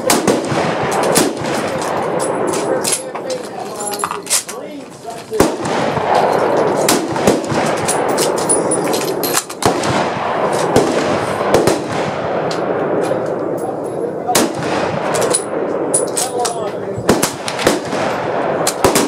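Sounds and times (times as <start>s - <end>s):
rifle gunshots: 0.0s - 3.7s, 5.3s - 13.6s, 14.2s - 19.0s
steady background noise: 0.0s - 19.0s.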